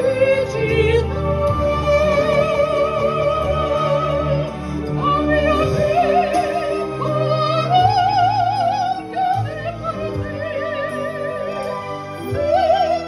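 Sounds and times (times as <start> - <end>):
soprano singing opera: 0.0 - 13.0.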